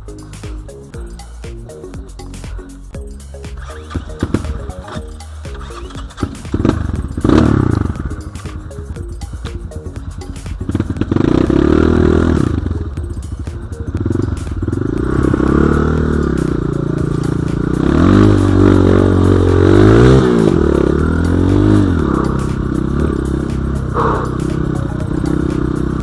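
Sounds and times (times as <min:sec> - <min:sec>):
dirt bike engine revving: 0:03.4 - 0:26.0.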